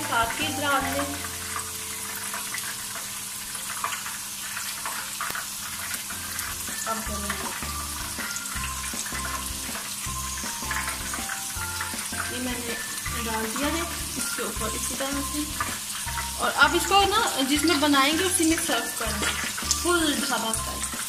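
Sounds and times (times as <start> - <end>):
low background music notes: 0.0 - 3.5, 5.6 - 21.0
crackling hiss of frying: 0.0 - 21.0.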